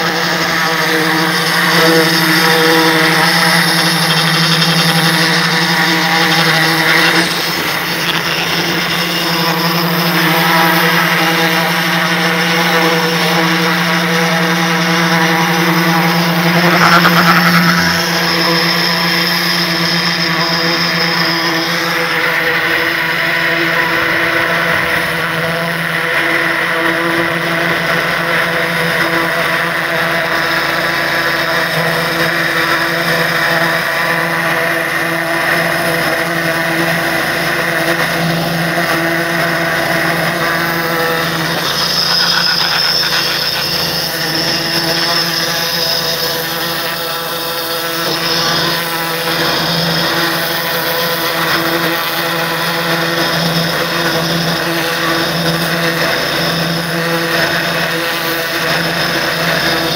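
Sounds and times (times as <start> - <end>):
pressure washer motor hum: 0.0 - 59.9.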